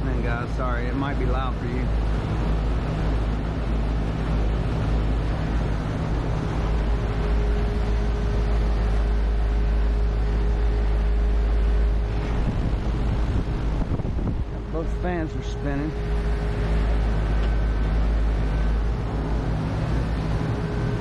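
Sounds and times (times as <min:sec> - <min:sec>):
air conditioner hum and fan rush: 0:00.0 - 0:21.0
steady higher tone: 0:00.0 - 0:21.0.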